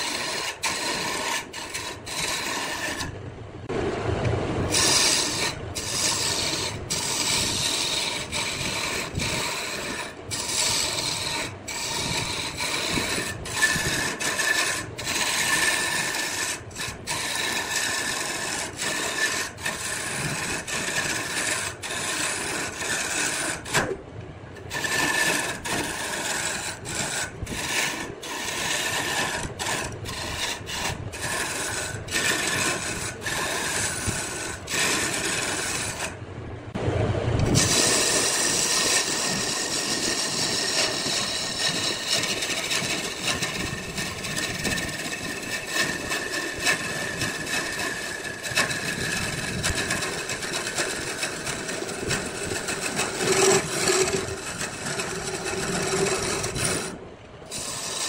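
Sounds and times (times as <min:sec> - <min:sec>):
tool scraping spinning wood: 0:00.0 - 0:36.3, 0:37.4 - 0:58.0.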